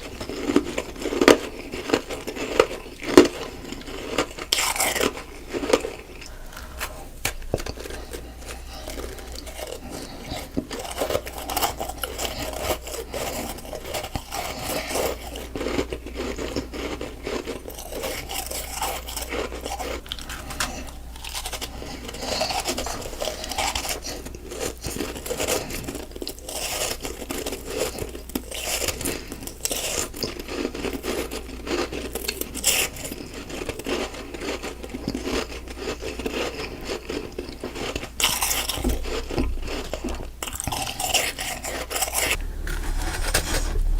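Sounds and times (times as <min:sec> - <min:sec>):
chewing crunchy ice: 0:00.0 - 0:43.9.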